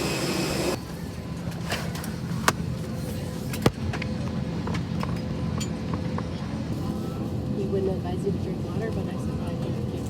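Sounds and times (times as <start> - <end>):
aircraft air system hum: 0.0 - 10.0.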